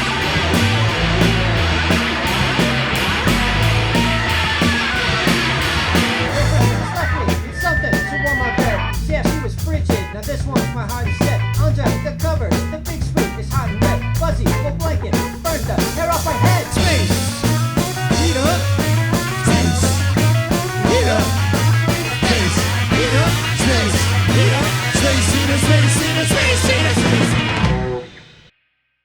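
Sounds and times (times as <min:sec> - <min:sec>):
rock band music: 0:00.0 - 0:28.5.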